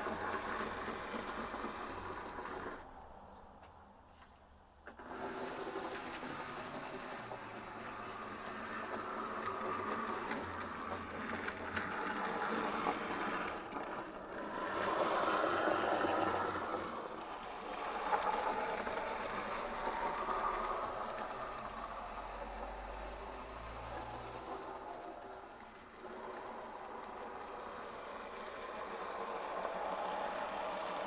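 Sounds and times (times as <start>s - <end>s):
model train wheels rattling: 0.0s - 3.0s, 4.2s - 31.0s.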